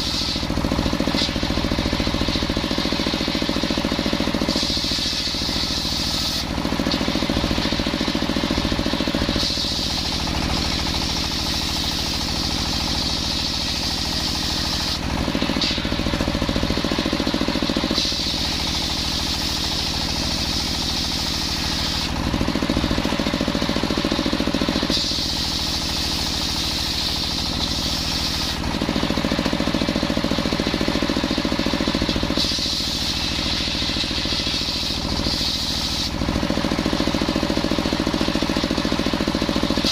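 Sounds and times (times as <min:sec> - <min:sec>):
circular saw cutting wood: 0:00.0 - 0:37.8.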